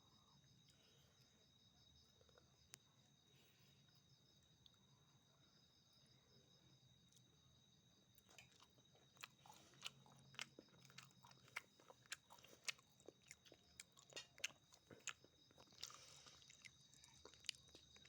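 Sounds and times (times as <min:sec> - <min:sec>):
faint crunchy chewing: 0:00.0 - 0:18.0.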